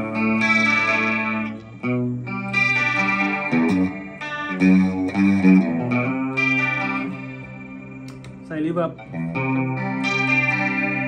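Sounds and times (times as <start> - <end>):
electric guitar with chorus effect: 0.0 - 11.0.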